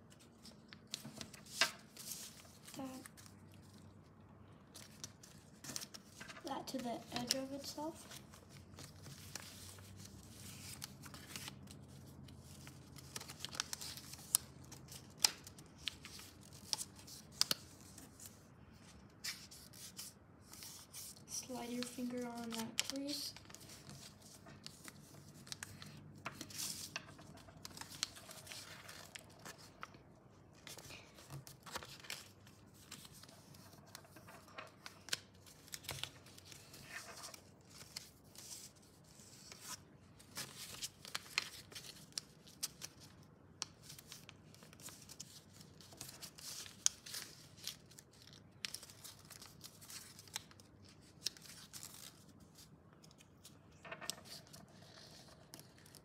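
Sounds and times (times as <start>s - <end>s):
paper crinkling and rustling: 0.1s - 4.0s, 4.7s - 56.0s.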